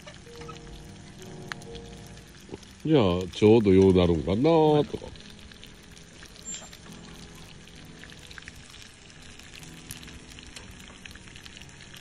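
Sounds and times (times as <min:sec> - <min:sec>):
fire crackling and popping: 0:00.0 - 0:12.0
food sizzling in a frying pan: 0:00.0 - 0:12.0.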